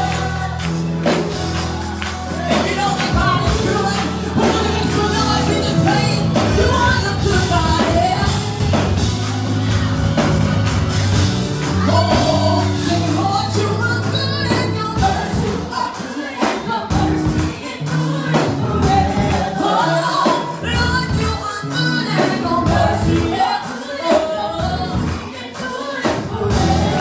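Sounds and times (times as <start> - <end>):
backing vocalists singing: 0.0 - 10.4, 11.6 - 27.0
lead singer singing: 0.0 - 10.4, 11.6 - 27.0
bass: 0.0 - 27.0
drums: 0.0 - 27.0.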